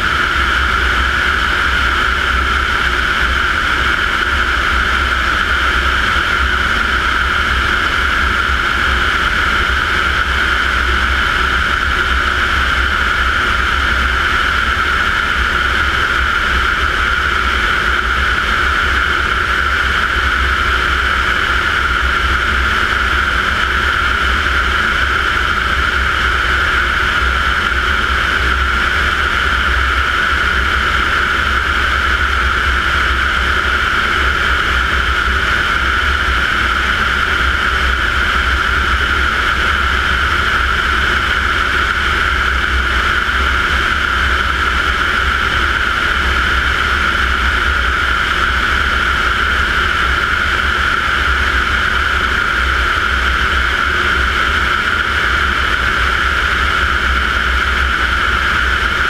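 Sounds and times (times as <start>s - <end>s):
turboprop engine in flight: 0.0s - 59.0s.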